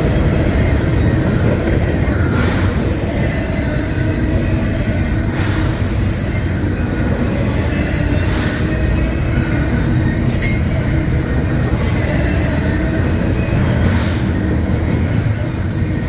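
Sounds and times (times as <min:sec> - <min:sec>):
high-pitched rail noise: 0:00.0 - 0:16.0
train rumbling past: 0:00.0 - 0:16.0.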